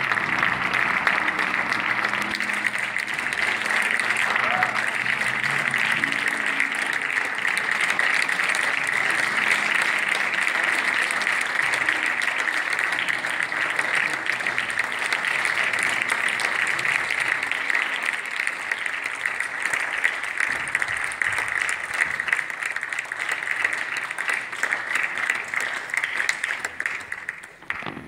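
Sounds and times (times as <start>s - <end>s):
audience clapping: 0.0s - 28.0s.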